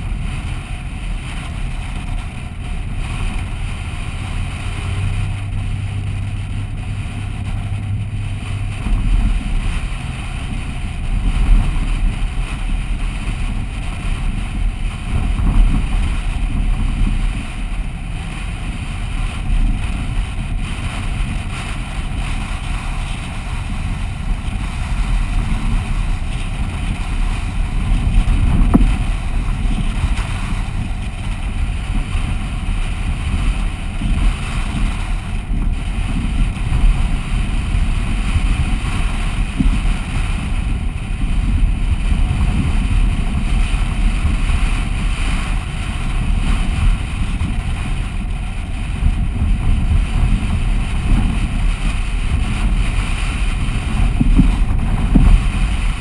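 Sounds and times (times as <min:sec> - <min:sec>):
vehicle running noise: 0:00.0 - 0:56.0
wind buffeting microphone: 0:00.0 - 0:56.0.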